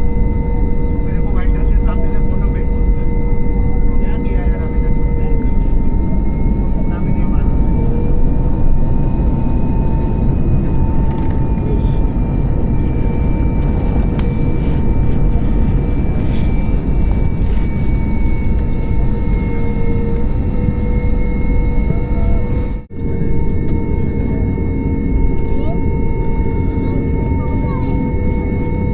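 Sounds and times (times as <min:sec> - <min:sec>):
airliner engines rumbling: 0:00.0 - 0:28.9
steady whining tones: 0:00.0 - 0:28.9.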